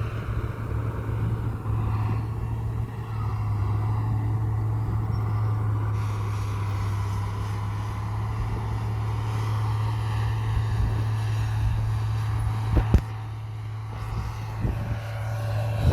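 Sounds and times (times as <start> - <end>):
heavy diesel engine running: 0.0 - 15.9.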